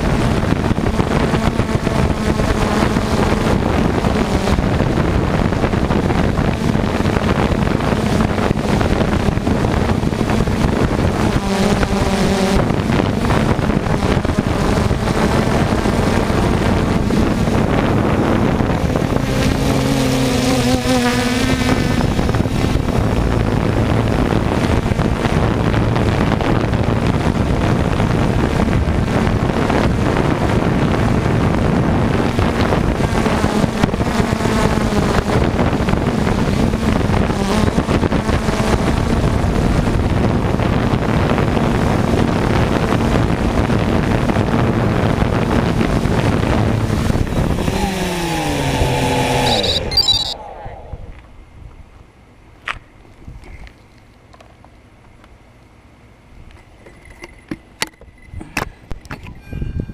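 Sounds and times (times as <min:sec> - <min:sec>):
wind on microphone: 0:00.0 - 0:52.0, 0:58.1 - 0:59.9
drone propellers buzzing: 0:00.0 - 0:52.1.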